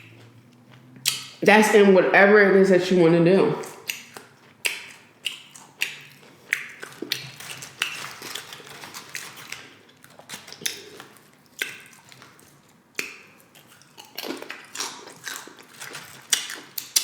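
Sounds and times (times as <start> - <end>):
crunching and chewing chips: 0.0 - 1.4, 3.8 - 17.0.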